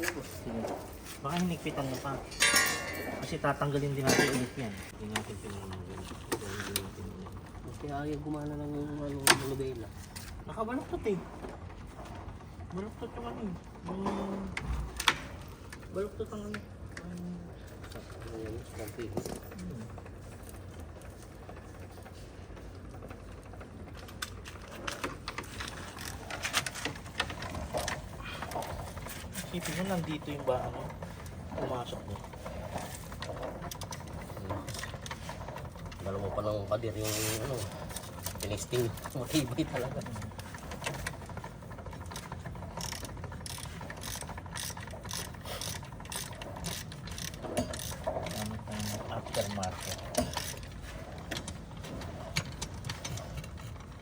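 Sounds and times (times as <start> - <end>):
mechanical clicking and rattling: 0.0 - 54.0
steady low hum: 0.0 - 54.0.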